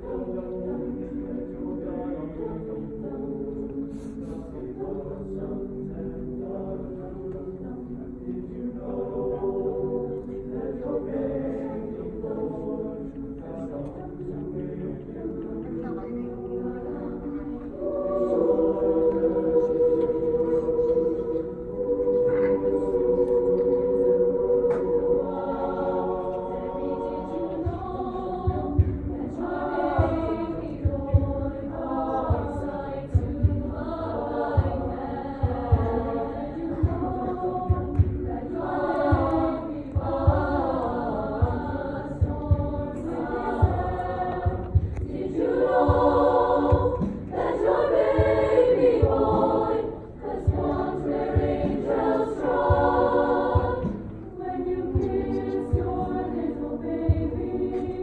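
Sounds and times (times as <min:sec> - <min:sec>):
choir singing in parts: 0:00.0 - 0:58.0.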